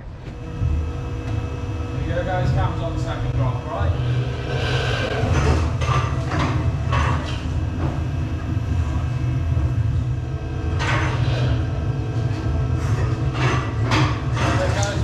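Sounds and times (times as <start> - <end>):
machinery rumbling: 0.0 - 15.0.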